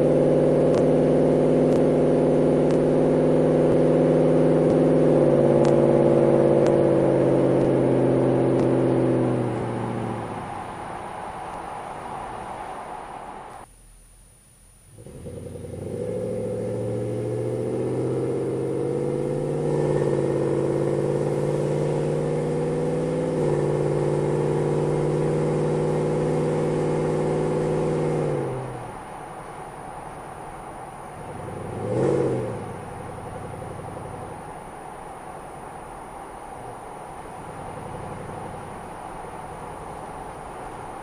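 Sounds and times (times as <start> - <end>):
engine exhaust accelerating: 0.0 - 13.7, 14.9 - 41.0
engine revving: 0.0 - 13.7, 14.9 - 29.0, 31.2 - 34.6, 36.6 - 41.0.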